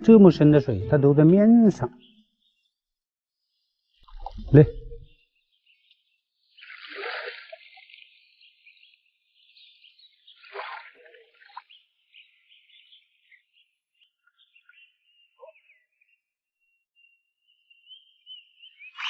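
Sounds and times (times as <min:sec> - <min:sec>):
bird chirps: 0:00.0 - 0:06.9, 0:07.6 - 0:19.0.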